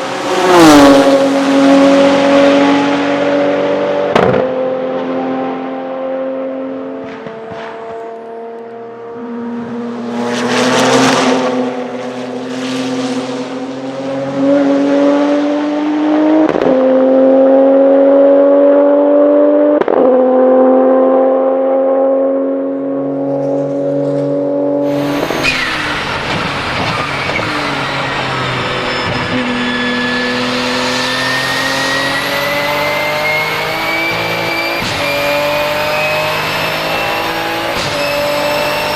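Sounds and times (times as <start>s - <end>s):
race car engine whining: 0.0s - 38.9s.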